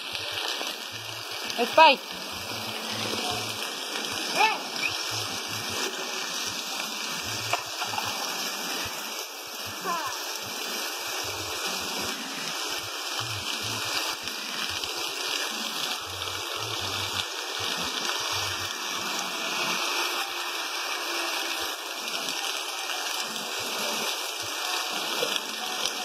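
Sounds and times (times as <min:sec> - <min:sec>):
heavy rain on a street: 0:00.0 - 0:26.0.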